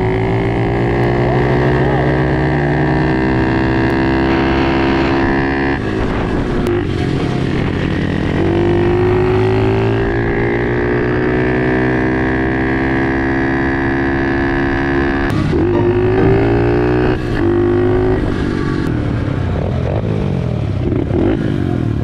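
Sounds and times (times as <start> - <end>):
motorbike engine accelerating: 0.0 - 22.0.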